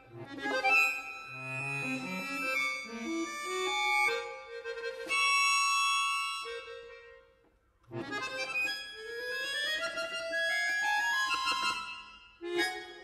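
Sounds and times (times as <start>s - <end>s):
accordion playing chords: 0.0s - 13.0s.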